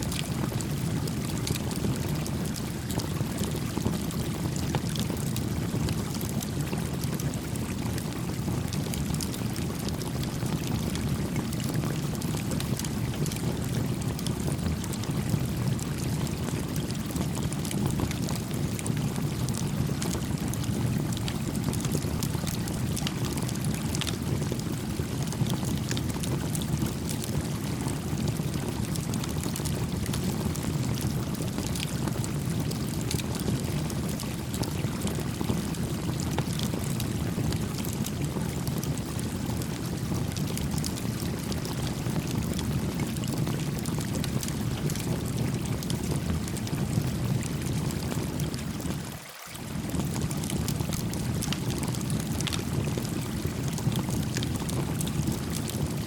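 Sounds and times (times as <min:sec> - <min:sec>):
campfire crackling and popping: 0:00.0 - 0:49.0, 0:49.8 - 0:56.0.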